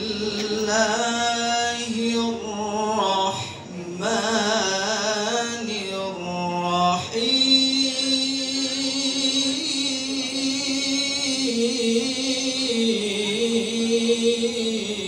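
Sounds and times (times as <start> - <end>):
person reciting melodically: 0.0 - 15.0.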